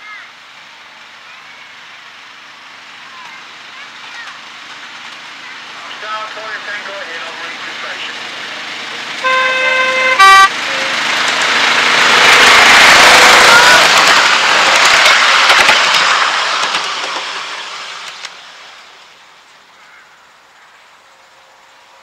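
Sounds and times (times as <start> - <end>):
miniature railway locomotive passing: 0.0 - 22.0
wheels rumbling on rails: 0.0 - 22.0.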